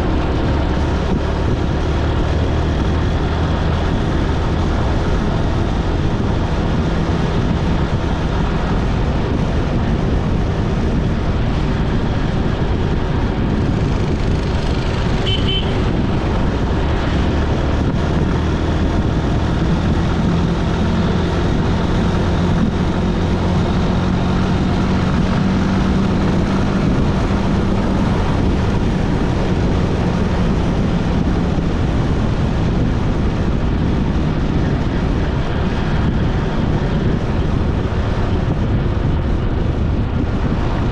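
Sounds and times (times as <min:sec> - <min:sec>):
vehicle engine hum: 0:00.0 - 0:40.9
wind and road noise: 0:00.0 - 0:40.9.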